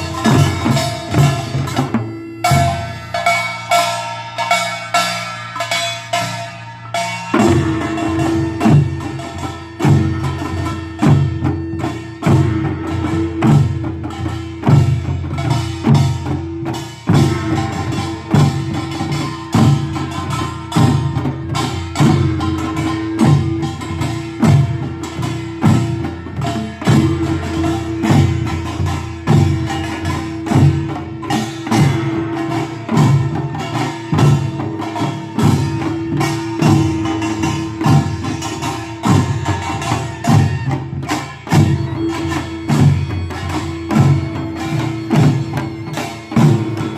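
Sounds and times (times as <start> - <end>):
metallic gong ringing: 0.0 - 40.8
drum strokes: 0.0 - 46.9.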